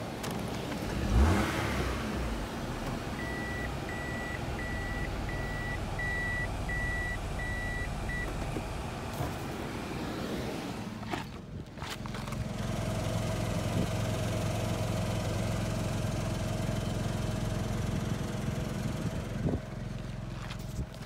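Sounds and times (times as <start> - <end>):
car engine idling: 0.0 - 10.0, 10.6 - 21.0.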